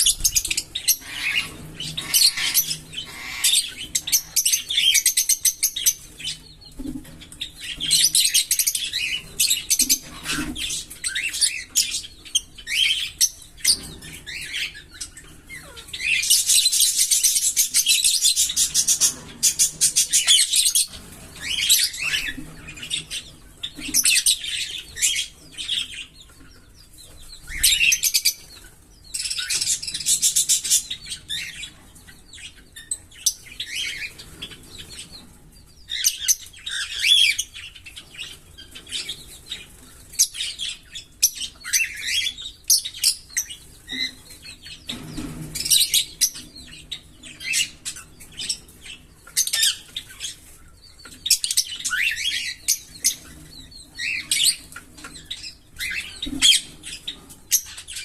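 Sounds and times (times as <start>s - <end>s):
lovebirds chattering and chirping: 0.0s - 58.0s.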